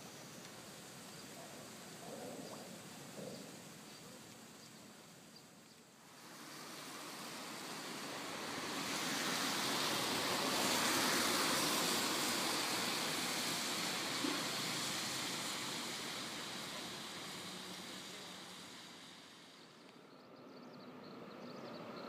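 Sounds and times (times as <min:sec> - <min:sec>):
tyre hiss on wet road: 0:00.0 - 0:22.0.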